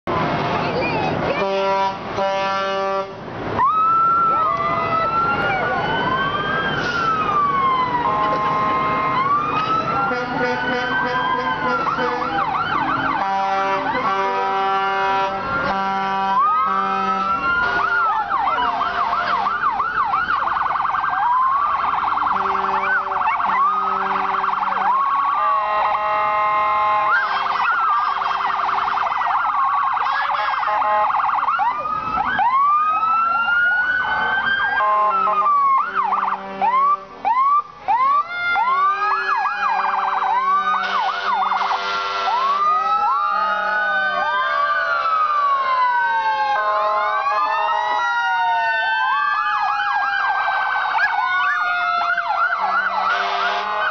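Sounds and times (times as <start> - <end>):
wailing sirens: 0.1 - 53.9.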